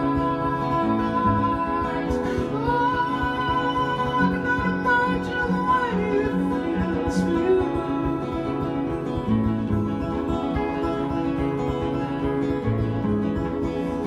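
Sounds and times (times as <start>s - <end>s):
acoustic guitars picking: 0.0s - 14.0s.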